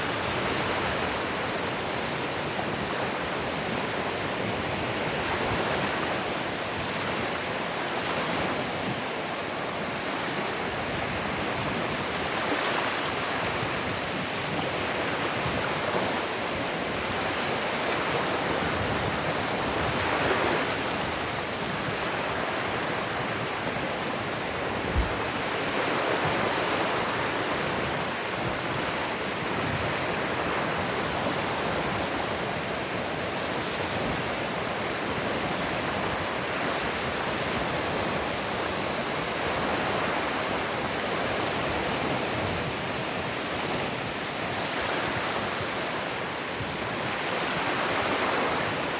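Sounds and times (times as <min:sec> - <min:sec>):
waves washing onto beach: 0:00.0 - 0:48.9.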